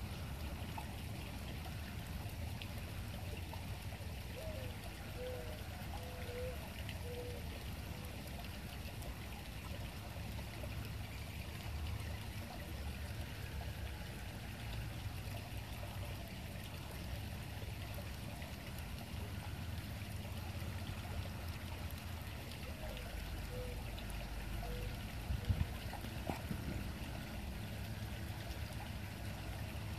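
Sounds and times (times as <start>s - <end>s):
low uneven rumble: 0.0s - 29.9s.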